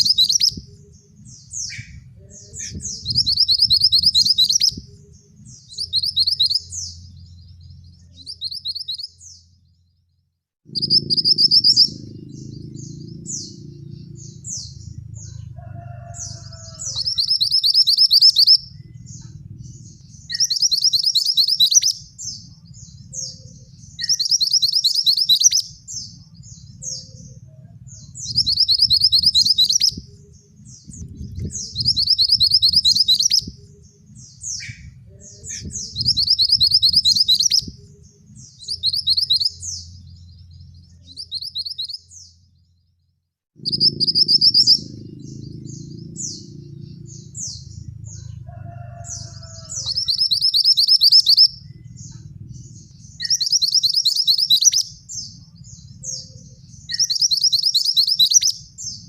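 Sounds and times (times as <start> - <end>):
bird trilling: 0.0 - 7.4, 8.0 - 9.4, 10.7 - 22.4, 23.0 - 26.2, 26.8 - 40.0, 43.6 - 52.3, 53.1 - 55.1, 56.0 - 59.0
faint low rumble: 0.0 - 59.0.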